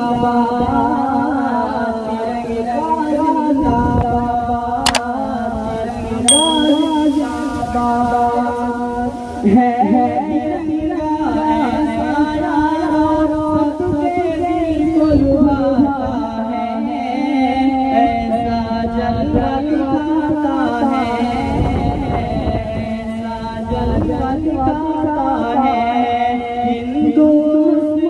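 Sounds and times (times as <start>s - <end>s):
men and boys singing in unison: 0.0s - 5.4s, 9.2s - 28.0s.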